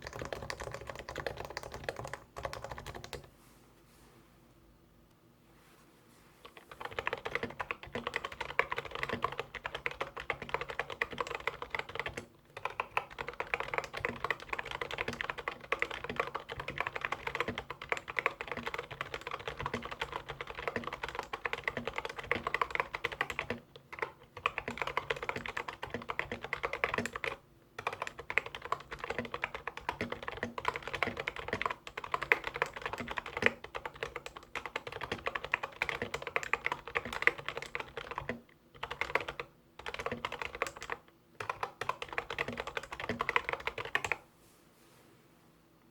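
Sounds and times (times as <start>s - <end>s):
typing on keyboard: 0.0s - 3.3s, 6.5s - 44.2s.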